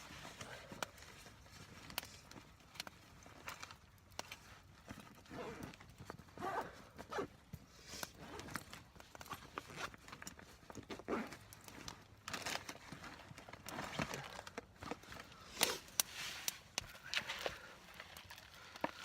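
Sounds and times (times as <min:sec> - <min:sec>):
camp gear rustling and knocking: 0:00.0 - 0:19.0.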